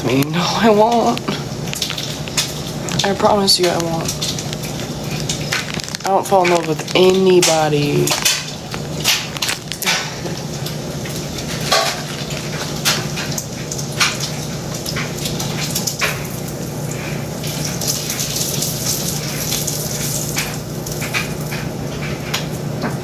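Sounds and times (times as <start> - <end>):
food sizzling in a frying pan: 0.1 - 23.0.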